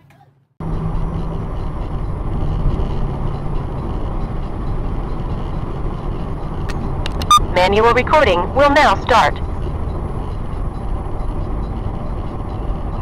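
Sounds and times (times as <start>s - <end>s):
car driving at highway speed: 0.6s - 13.0s.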